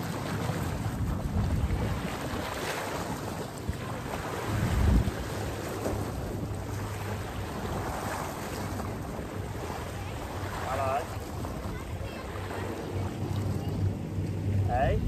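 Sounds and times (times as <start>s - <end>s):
waves lapping on rocky shore: 0.0s - 15.0s
wind buffeting microphone: 0.0s - 15.0s.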